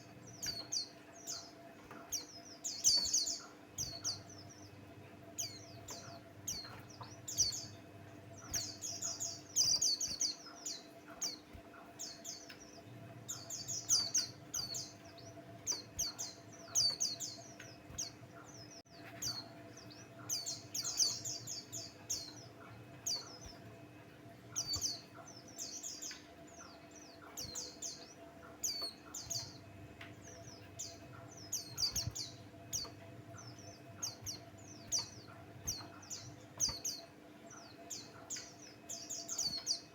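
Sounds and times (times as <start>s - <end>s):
bird twittering chirps: 0.0s - 39.9s
faint low hum: 0.0s - 39.9s.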